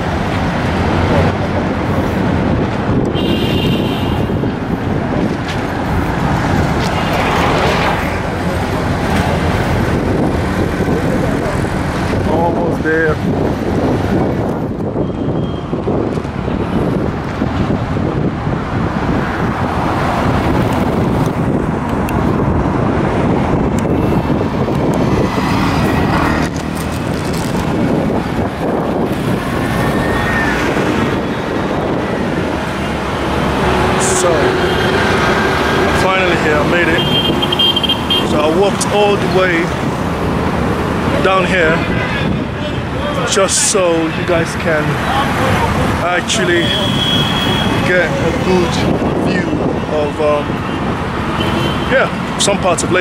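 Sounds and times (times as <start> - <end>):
road traffic: 0.0 - 53.0
wind rumbling on microphone: 0.0 - 53.0.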